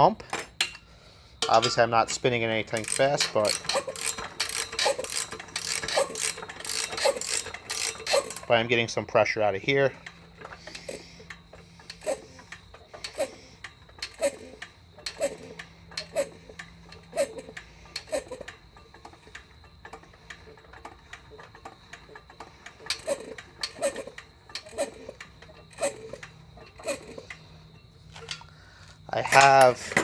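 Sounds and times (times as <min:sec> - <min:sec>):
hand pump clicking and squeaking: 0:00.0 - 0:30.0.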